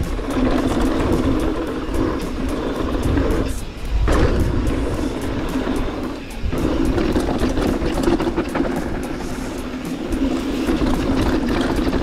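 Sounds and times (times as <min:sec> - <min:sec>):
bike rattles and knocks: 0:00.0 - 0:12.0
rumble of tyres and wind: 0:00.0 - 0:12.0.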